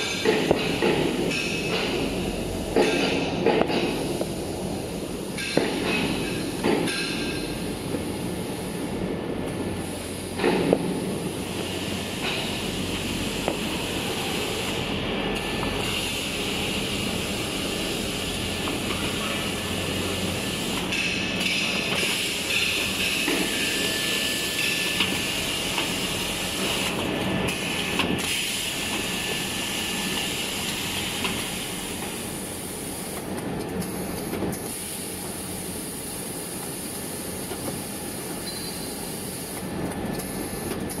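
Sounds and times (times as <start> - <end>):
industrial machinery running: 0.0 - 41.0.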